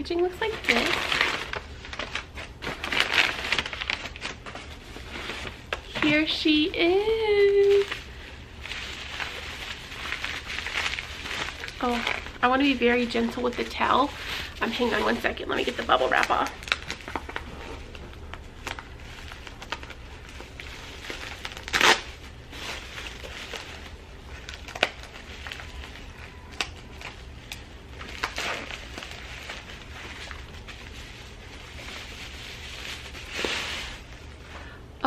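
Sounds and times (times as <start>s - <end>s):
bubble wrap crinkling: 0.0s - 34.8s
plastic rustling: 0.0s - 34.8s.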